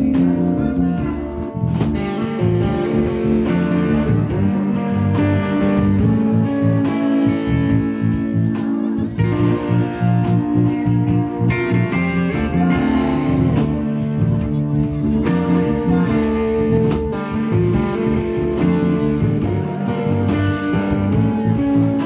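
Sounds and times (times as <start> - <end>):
live rock band playing: 0.0 - 22.0
man singing lead: 0.0 - 22.0.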